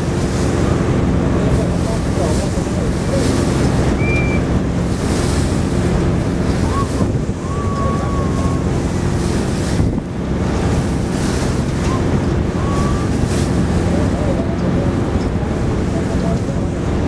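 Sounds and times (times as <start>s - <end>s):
low engine drone: 0.0s - 17.0s
water splashing against hull: 0.0s - 17.0s
wind buffeting microphone: 0.0s - 17.0s.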